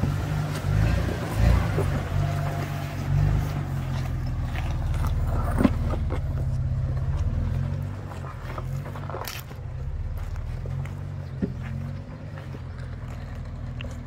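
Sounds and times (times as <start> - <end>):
vehicle engine running at low revs: 0.0 - 14.0.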